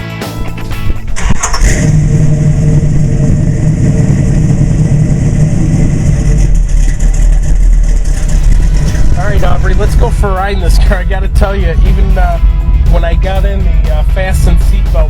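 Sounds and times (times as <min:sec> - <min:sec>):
car engine idling: 0:00.5 - 0:15.0
car engine cranking: 0:00.6 - 0:15.0.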